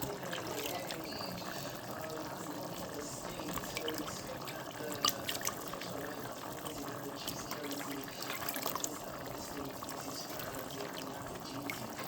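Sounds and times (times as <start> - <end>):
water pouring: 0.0 - 12.0.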